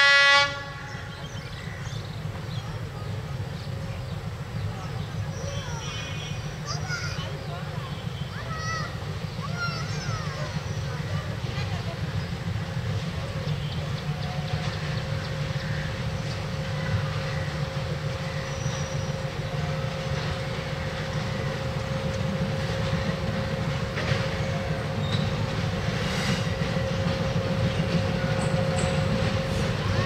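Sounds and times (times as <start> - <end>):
diesel locomotive rumble: 0.0 - 30.0.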